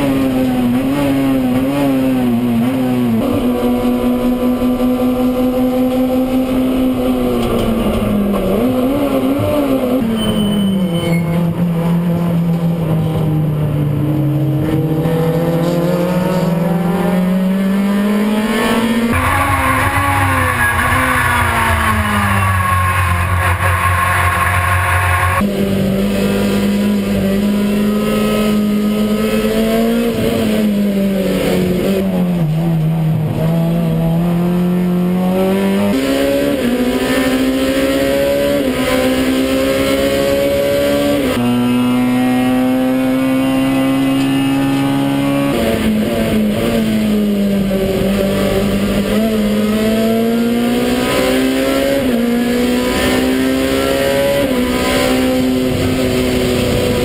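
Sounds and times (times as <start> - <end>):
race car engine revving: 11.4 - 57.0.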